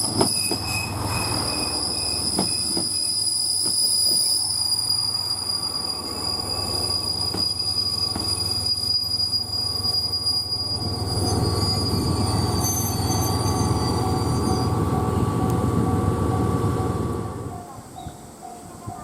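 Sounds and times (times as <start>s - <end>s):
train rumble: 0.0s - 19.0s
train wheels squealing on rails: 0.0s - 19.0s.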